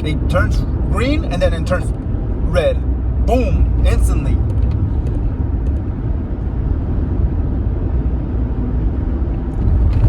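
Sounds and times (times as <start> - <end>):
car engine and road noise inside: 0.0 - 10.0.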